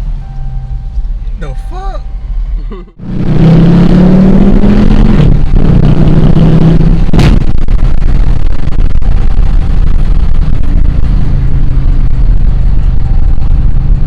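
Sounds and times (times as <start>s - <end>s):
car engine accelerating hard: 2.2s - 14.0s.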